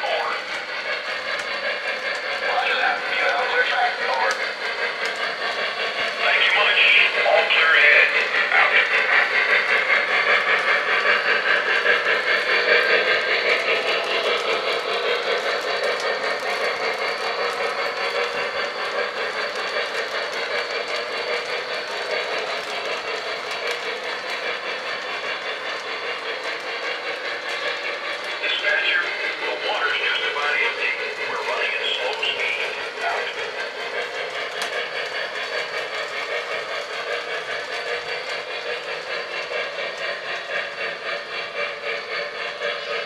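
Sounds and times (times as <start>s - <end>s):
model steam locomotive running: 0.0s - 43.0s.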